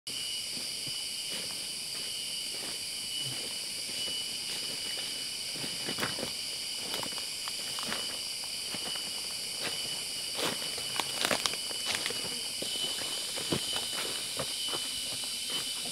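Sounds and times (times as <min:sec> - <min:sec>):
insect chorus: 0:00.1 - 0:15.9
footsteps crunching dry leaves: 0:00.6 - 0:15.9.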